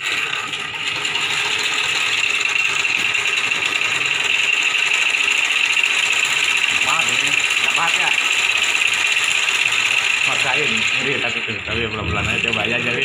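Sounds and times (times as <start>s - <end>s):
hand tool scraping spinning wood: 0.0s - 13.0s
lathe motor whining: 0.0s - 13.0s.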